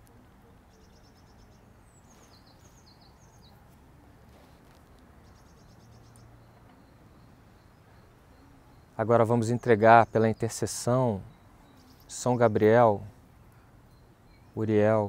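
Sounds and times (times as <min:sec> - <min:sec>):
faint high bird calls: 0:00.0 - 0:03.7, 0:04.3 - 0:15.0.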